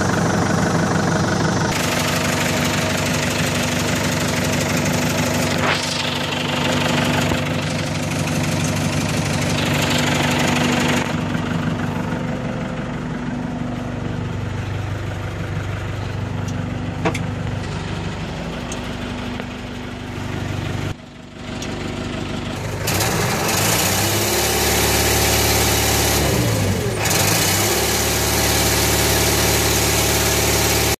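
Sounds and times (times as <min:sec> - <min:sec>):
diesel engine revving: 0:00.0 - 0:31.0.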